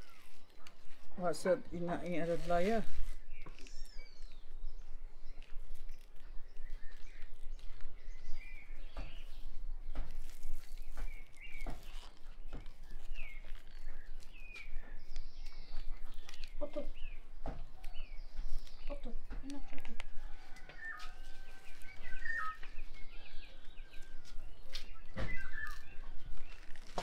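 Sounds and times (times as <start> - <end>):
small birds chirping: 0.0 - 27.0
soft rustles: 0.0 - 27.0.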